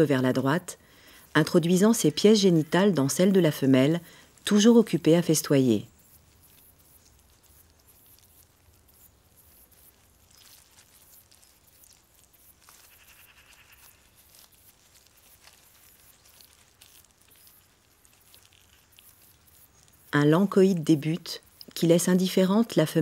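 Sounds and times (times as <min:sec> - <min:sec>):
faint ambient hiss: 0:00.0 - 0:23.0
soft clicks and crackles: 0:01.0 - 0:23.0.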